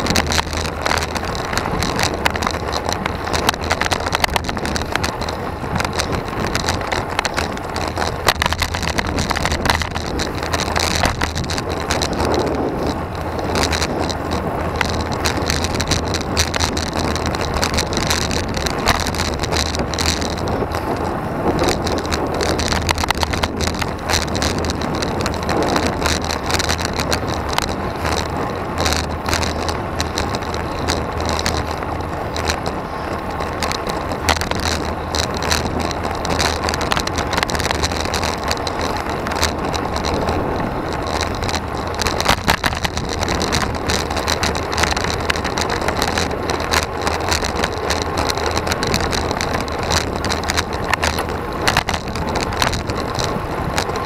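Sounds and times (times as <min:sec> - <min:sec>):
bike clicks and rattles: 0:00.0 - 0:54.0
bike tyre noise on asphalt: 0:00.0 - 0:54.0
wind rush: 0:00.0 - 0:54.0.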